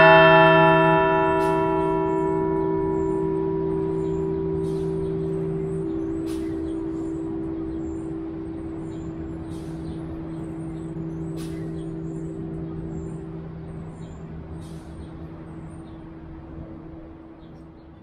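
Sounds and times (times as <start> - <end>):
large church bell ringing: 0.0 - 18.0.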